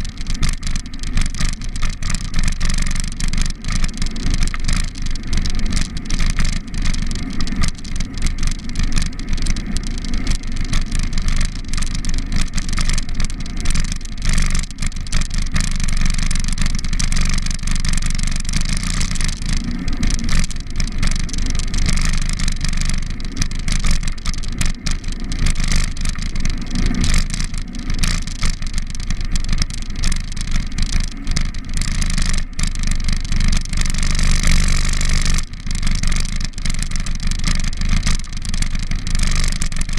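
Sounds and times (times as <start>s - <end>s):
bicycle rattle: 0.0s - 39.9s.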